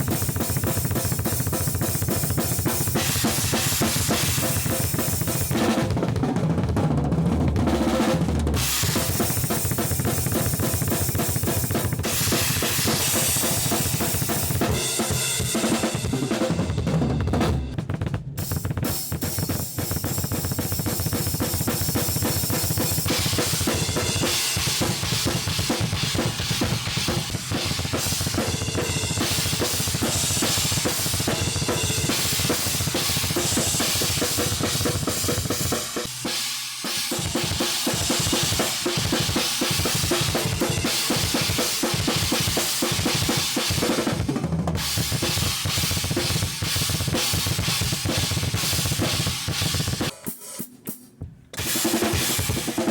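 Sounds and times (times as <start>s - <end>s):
drum kit groove: 0.0s - 52.9s.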